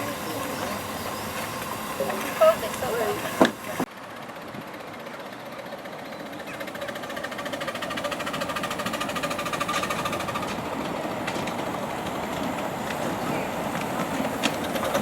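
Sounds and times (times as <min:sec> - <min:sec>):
miniature railway locomotive running: 0:00.0 - 0:15.0.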